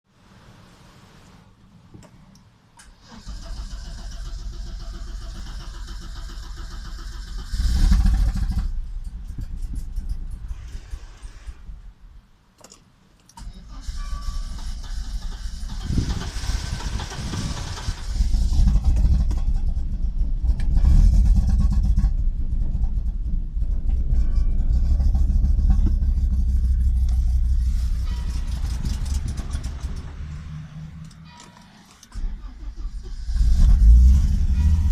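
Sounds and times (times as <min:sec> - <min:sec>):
car engine misfiring: 0:02.8 - 0:11.6, 0:12.6 - 0:34.9.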